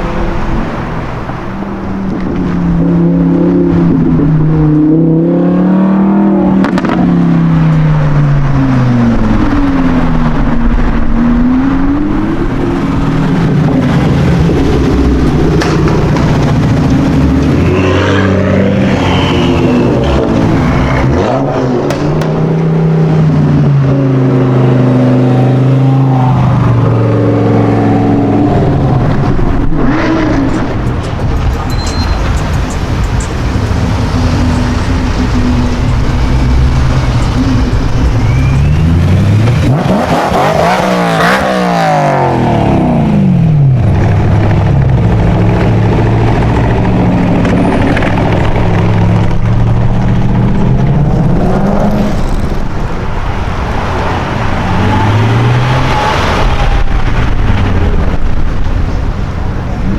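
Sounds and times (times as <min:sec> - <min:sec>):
sports car engine revving: 0:00.0 - 0:59.9.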